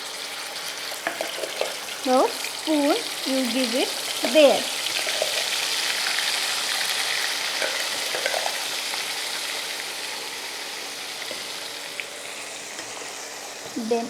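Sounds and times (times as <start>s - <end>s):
puree sizzling in hot oil: 0.0s - 14.0s.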